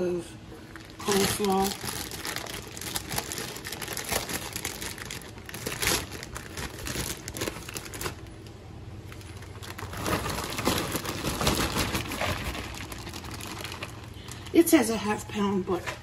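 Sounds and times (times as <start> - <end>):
plastic bag crinkling: 0.5 - 14.8.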